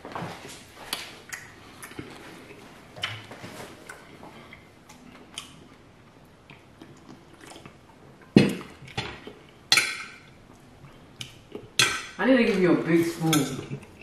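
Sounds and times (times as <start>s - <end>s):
person chewing: 0.8s - 12.1s, 13.6s - 14.0s.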